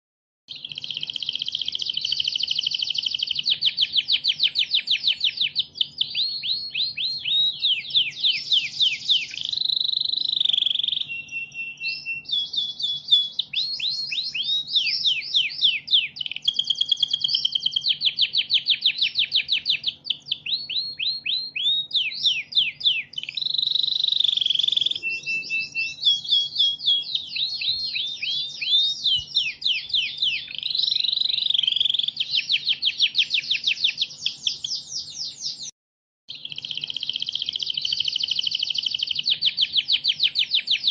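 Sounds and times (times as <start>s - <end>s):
canary singing trills: 0.5s - 35.7s, 36.3s - 40.9s.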